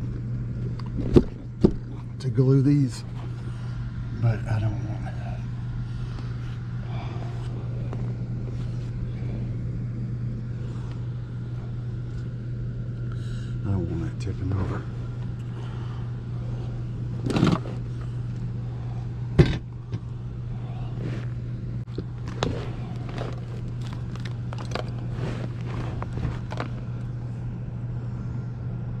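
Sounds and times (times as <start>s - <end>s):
low hum of running equipment: 0.0s - 29.0s.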